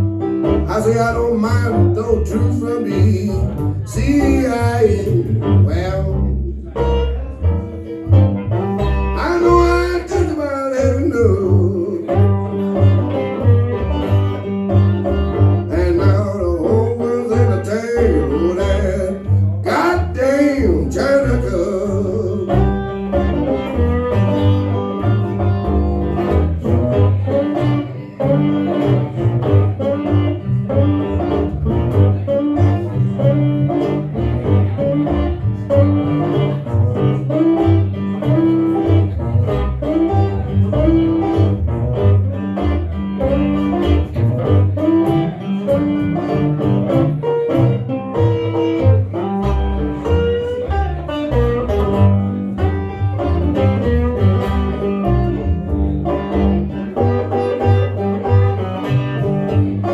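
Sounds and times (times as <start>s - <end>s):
plucked guitar: 0.0s - 59.9s
rhythmic bass line: 0.0s - 59.9s.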